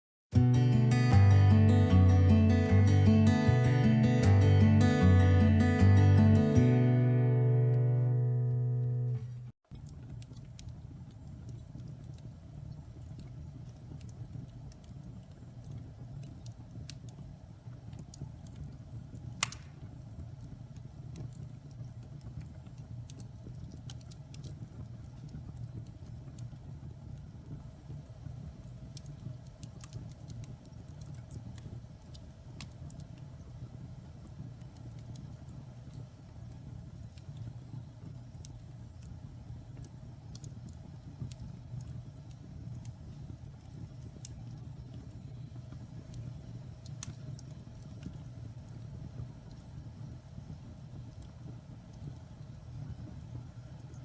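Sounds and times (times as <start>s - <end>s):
low rumble of flames: 9.7s - 54.0s
wood fire crackling: 9.7s - 54.0s.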